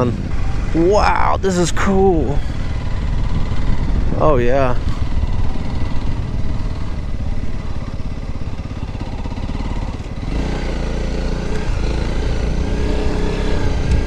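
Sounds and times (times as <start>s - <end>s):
motorcycle engine running: 0.0s - 14.0s
wind rumble: 0.0s - 14.0s.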